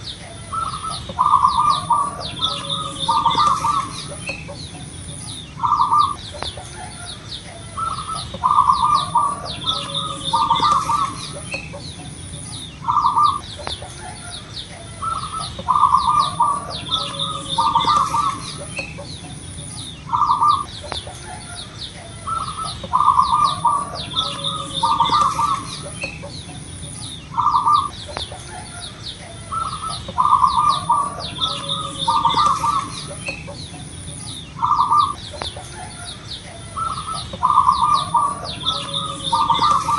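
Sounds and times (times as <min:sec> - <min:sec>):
dove cooing song: 0:00.0 - 0:39.9
small birds chirping: 0:00.0 - 0:39.9.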